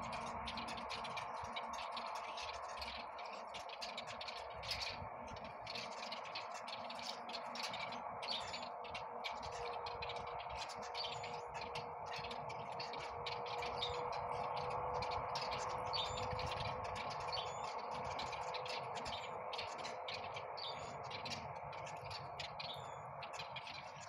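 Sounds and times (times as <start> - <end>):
small birds chirping and twittering: 0.0 - 24.0
steady background hum: 0.0 - 24.0.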